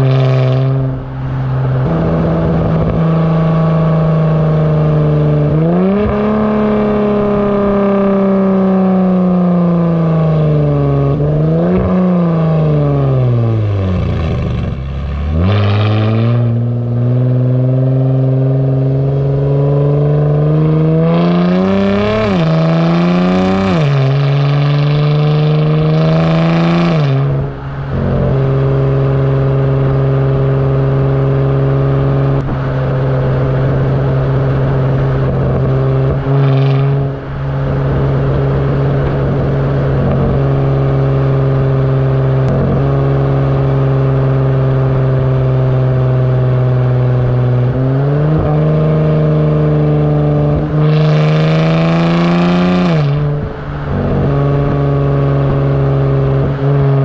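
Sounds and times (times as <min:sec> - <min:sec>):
car exhaust note while cruising: 0:00.0 - 0:57.0.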